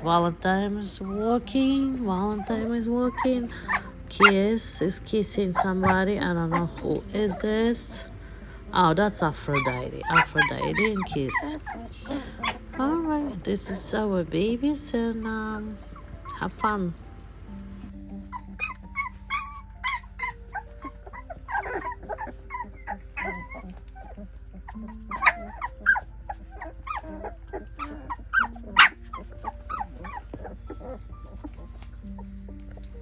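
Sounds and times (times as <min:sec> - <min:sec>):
puppies whimpering and squealing: 0:00.0 - 0:33.0
puppies yelping: 0:00.0 - 0:33.0.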